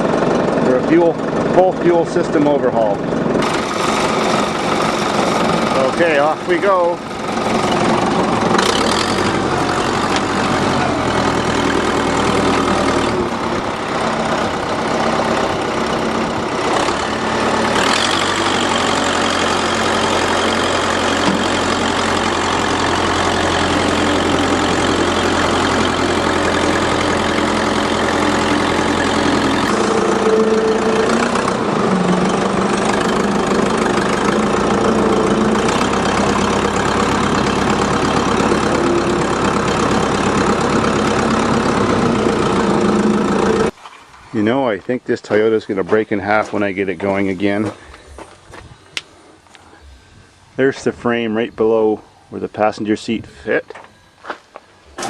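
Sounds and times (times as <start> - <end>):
vehicle engine running: 0.0 - 51.6.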